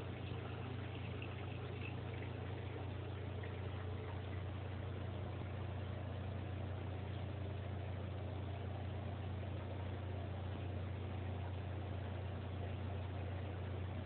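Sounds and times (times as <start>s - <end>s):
pump motor humming: 0.0s - 14.0s.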